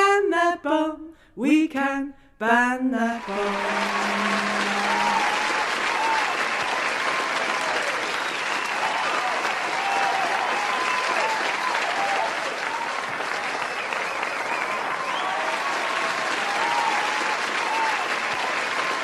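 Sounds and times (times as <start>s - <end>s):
group clapping: 3.2s - 19.0s
voices calling and cheering: 3.2s - 19.0s.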